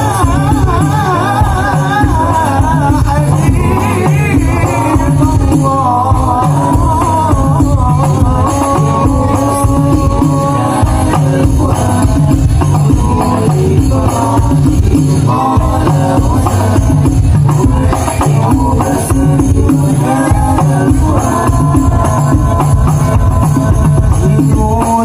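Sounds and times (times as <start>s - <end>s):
frame drums beating: 0.0s - 25.0s
person singing: 0.0s - 25.0s.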